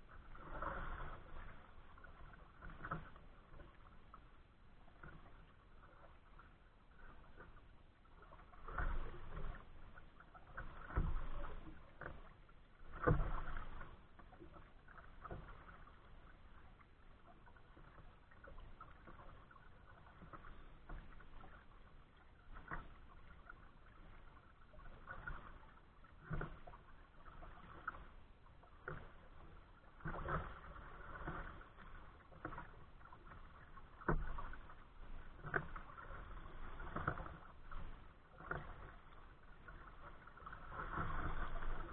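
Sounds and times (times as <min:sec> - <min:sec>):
faint wash of water: 0:00.0 - 0:41.9
paddle strokes splashing water: 0:00.0 - 0:41.9.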